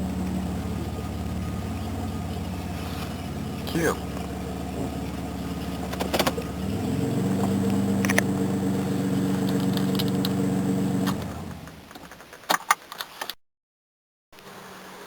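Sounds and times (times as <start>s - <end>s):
car engine with loud exhaust: 0.0s - 12.1s.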